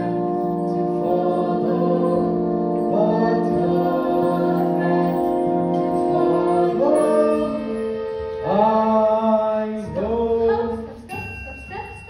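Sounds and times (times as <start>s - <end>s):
pit orchestra with brass playing: 0.0s - 10.1s.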